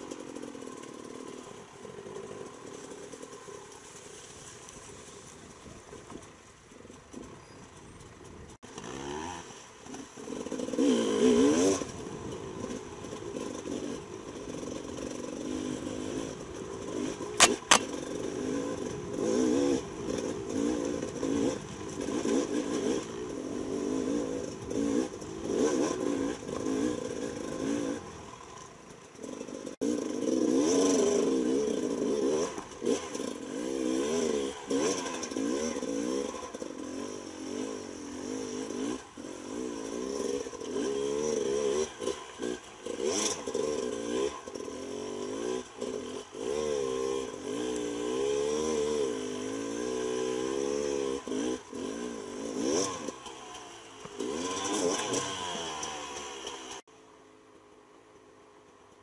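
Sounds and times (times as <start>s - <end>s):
dirt bike engine revving: 8.6s - 56.9s.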